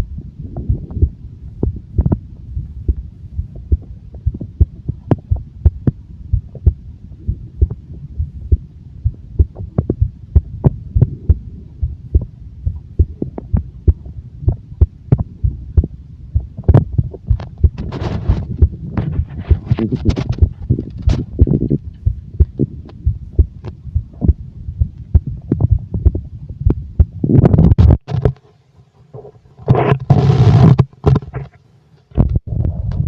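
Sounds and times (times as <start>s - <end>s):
heartbeat thumps: 0.0s - 28.4s
continuous low hum: 0.0s - 33.0s.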